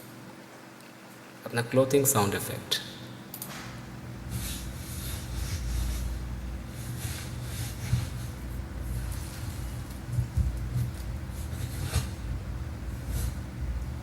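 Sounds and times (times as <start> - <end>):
low room rumble: 0.0 - 14.0.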